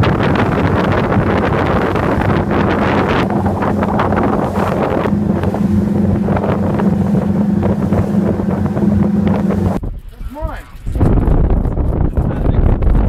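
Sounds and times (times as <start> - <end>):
boat engine humming: 0.0 - 11.6
wind buffeting microphone: 0.0 - 13.0.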